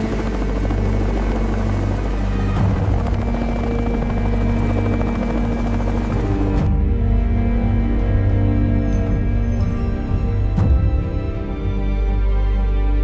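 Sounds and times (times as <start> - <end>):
helicopter rotor and engine: 0.0 - 12.1
orchestral music: 0.0 - 13.0.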